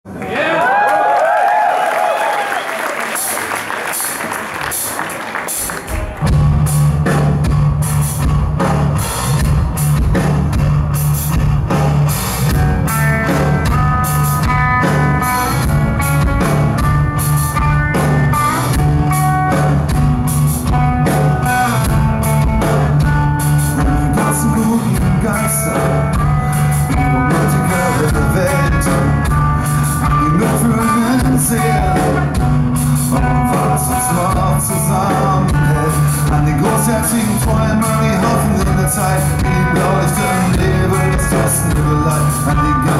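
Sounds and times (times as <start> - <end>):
drums: 1.8 - 42.9
electric bass: 5.5 - 42.9.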